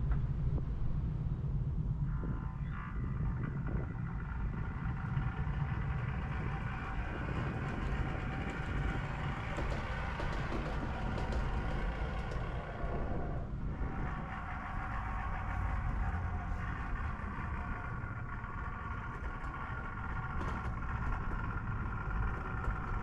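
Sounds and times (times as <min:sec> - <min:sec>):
wheels clicking on track: 0:03.5 - 0:23.0
model train rumbling on track: 0:03.6 - 0:23.0.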